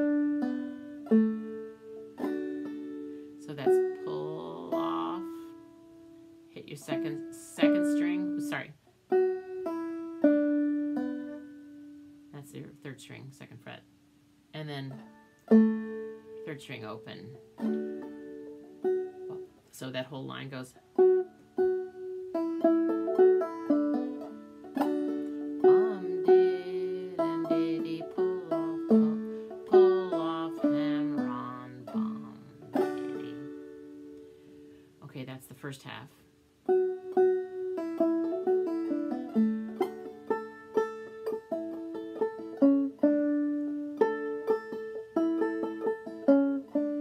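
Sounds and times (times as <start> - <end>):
banjo plucked notes: 0.0 - 47.0.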